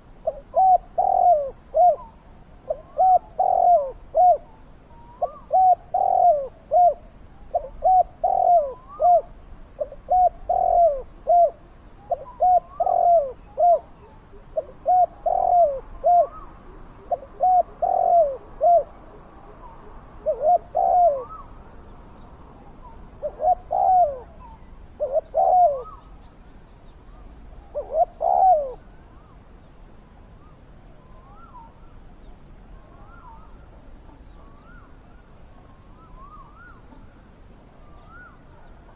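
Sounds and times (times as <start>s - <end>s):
doves cooing: 0.0s - 21.7s, 22.6s - 26.2s, 27.2s - 29.4s, 32.7s - 38.9s.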